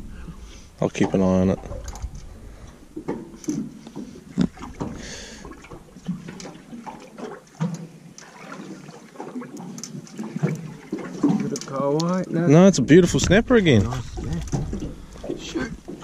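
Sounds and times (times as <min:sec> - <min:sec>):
water slapping against boat hull: 0:00.8 - 0:16.0.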